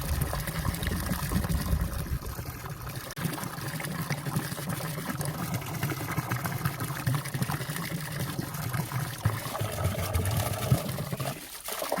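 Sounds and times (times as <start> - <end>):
stream trickling and gurgling: 0.0 - 12.0.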